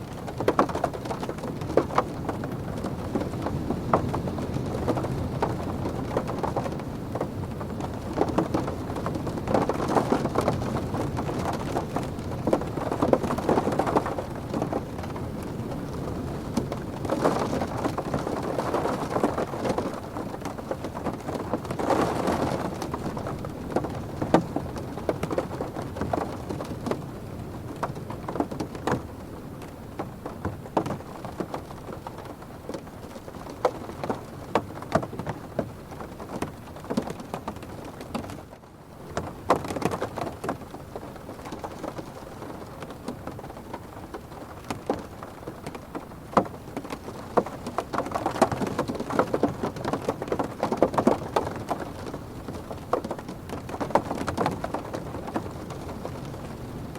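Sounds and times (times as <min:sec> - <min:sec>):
rain pattering on car roof: 0:00.0 - 0:56.9.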